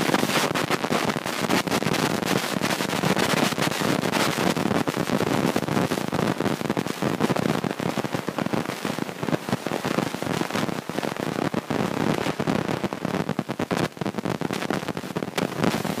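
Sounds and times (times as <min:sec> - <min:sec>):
microphone crackling: 0:00.0 - 0:16.0.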